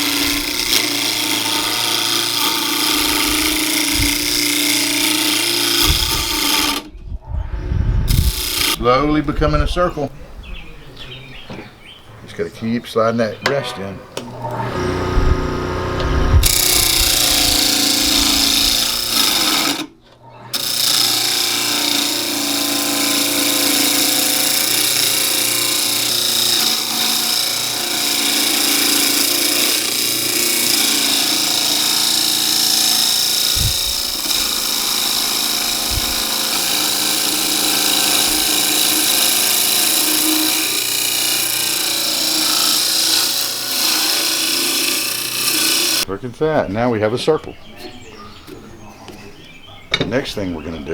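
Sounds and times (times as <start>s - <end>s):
wood lathe cutting wood: 0.0s - 6.9s, 8.1s - 10.1s, 12.3s - 46.1s.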